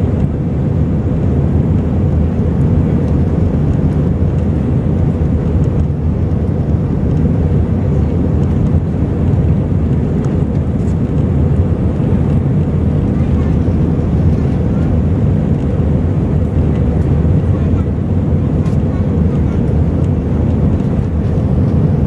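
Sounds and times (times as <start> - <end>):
jet cabin engine rumble: 0.0 - 22.0.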